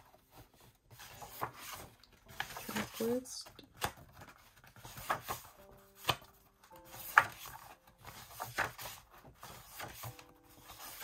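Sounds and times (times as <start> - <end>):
faint piano music: 0.0 - 11.0.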